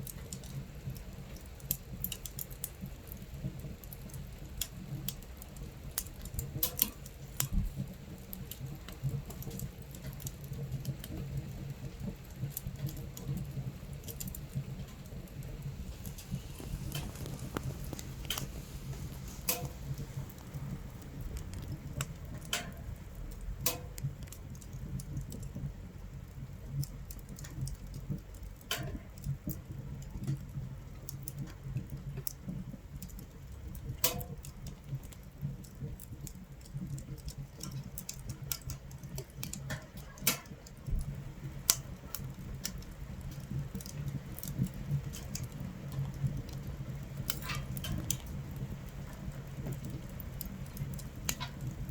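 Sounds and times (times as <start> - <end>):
low stove rumble: 0.0 - 51.9
rain pattering on tent: 0.0 - 51.9
wood fire crackling and popping: 0.0 - 51.9.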